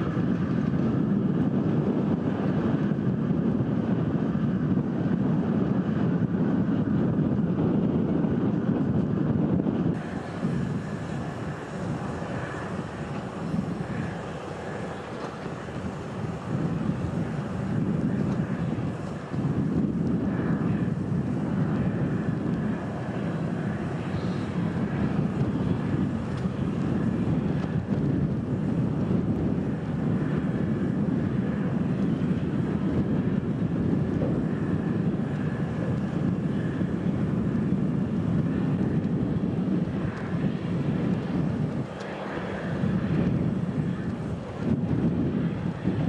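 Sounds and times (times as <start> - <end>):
train rumbling along track: 0.0 - 46.0.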